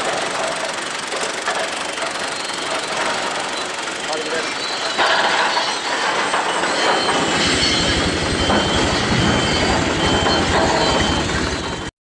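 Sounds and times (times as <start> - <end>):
heavy machinery diesel engines rumbling: 0.0 - 11.9.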